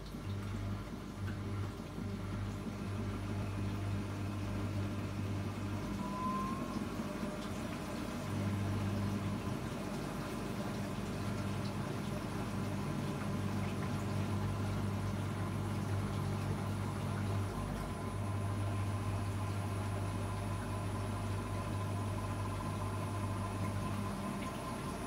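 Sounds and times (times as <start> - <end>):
washing machine drain pump humming: 0.0 - 25.0.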